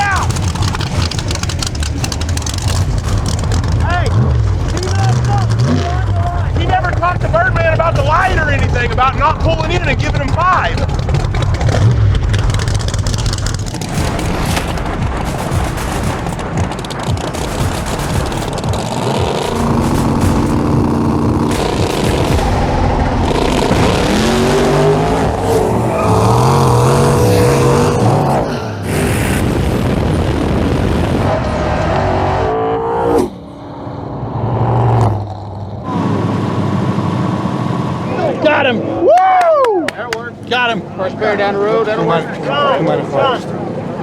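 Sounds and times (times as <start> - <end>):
engine crackling and banging: 0.0 - 44.0
loud racing car engines: 0.0 - 44.0.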